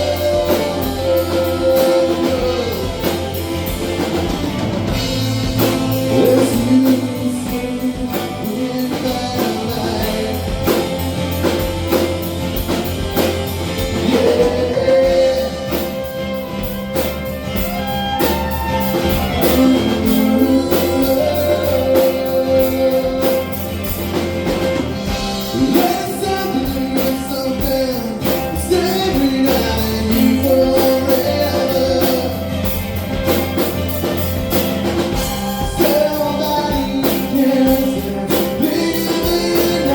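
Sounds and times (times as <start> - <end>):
person singing: 0.0 - 4.5, 5.2 - 11.7, 13.8 - 16.7, 17.6 - 24.1, 25.1 - 33.6, 34.5 - 39.9
drums: 0.0 - 39.9
guitar: 0.0 - 39.9.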